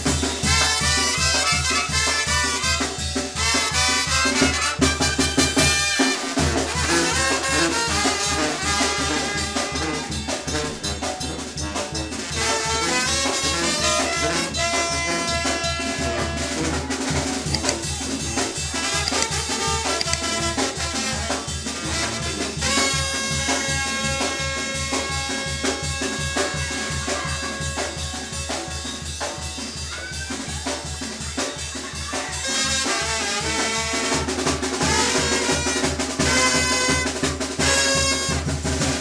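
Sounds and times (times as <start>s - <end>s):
brass band playing dance tune: 0.0s - 39.0s.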